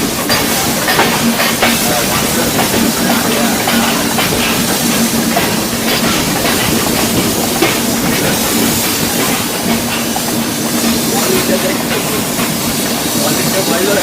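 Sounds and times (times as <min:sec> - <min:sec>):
passenger train running: 0:00.0 - 0:14.0.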